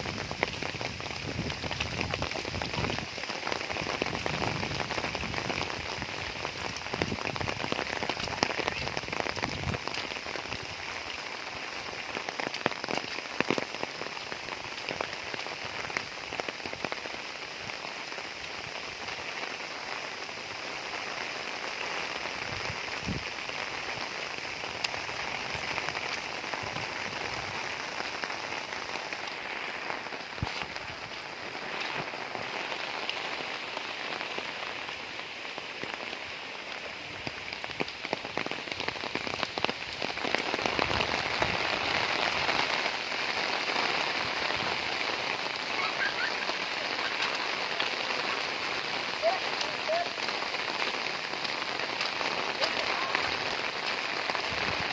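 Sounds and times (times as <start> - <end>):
heavy rain falling: 0.0 - 54.9
raindrops striking close by: 0.0 - 54.9.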